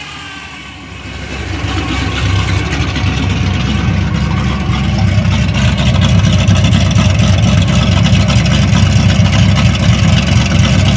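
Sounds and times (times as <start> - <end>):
v-eight exhaust rumble: 0.0 - 10.9.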